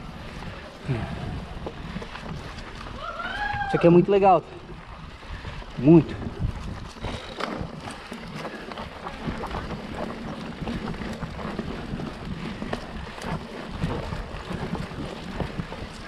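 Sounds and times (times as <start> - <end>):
bike tyres on dirt trail: 0.0 - 16.0
bike clicking and knocking: 1.6 - 4.1, 4.9 - 16.0.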